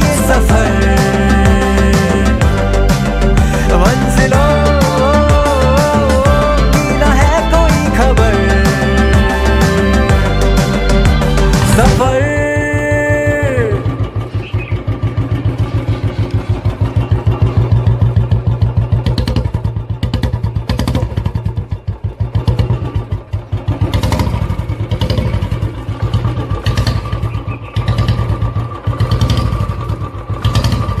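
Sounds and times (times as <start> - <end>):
motorcycle engine thumping: 0.0 - 31.0.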